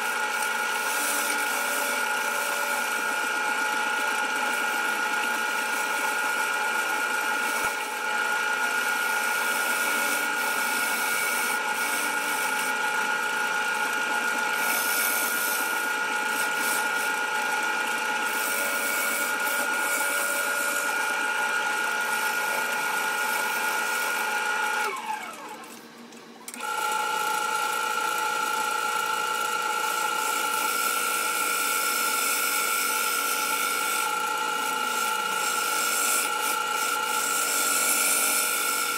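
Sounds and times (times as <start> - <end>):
turning tool scraping wood: 0.0 - 24.9, 30.2 - 38.9
wood lathe whining: 0.0 - 25.9, 26.5 - 38.9.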